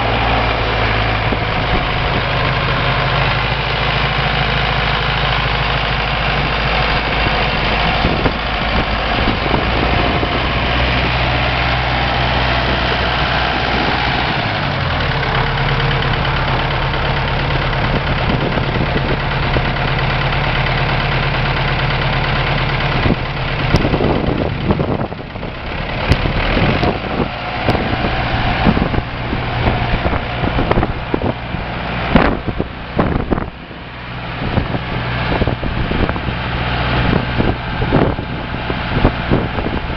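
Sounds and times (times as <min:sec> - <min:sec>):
diesel tractor engine idling: 0:00.0 - 0:39.9.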